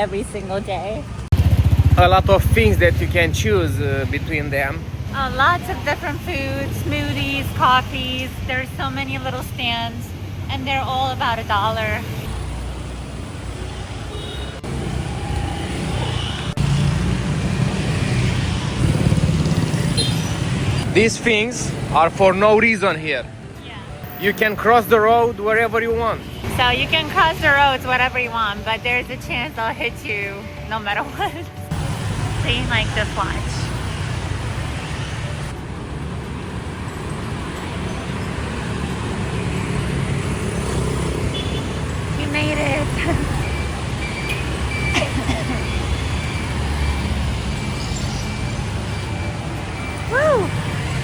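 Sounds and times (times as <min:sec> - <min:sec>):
street traffic hum: 0:00.0 - 0:51.0.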